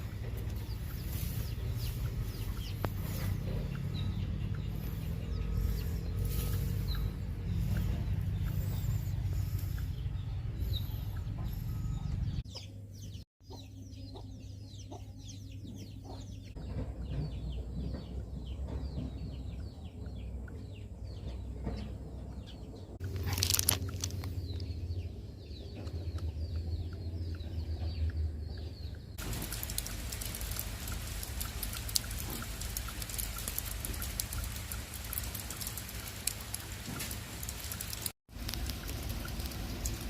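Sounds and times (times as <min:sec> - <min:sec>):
birds chirping and clucking: 0:00.0 - 0:40.0.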